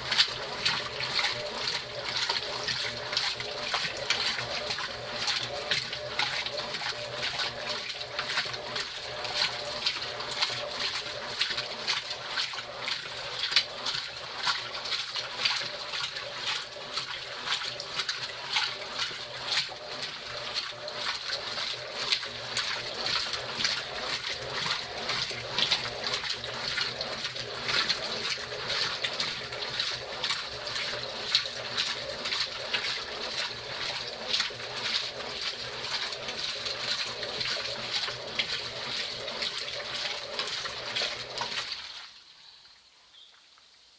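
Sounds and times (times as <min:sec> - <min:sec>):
washing machine water sloshing: 0:00.0 - 0:43.0.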